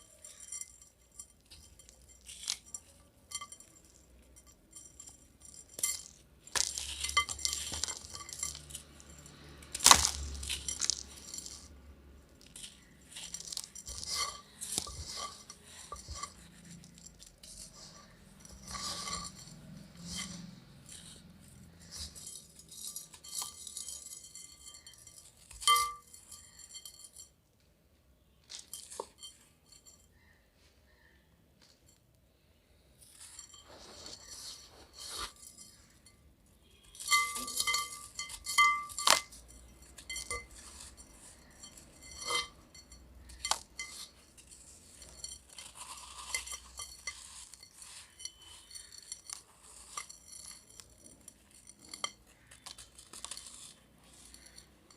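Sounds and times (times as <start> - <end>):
grainy material crunching in clay pot: 0.0 - 27.3, 33.0 - 54.9.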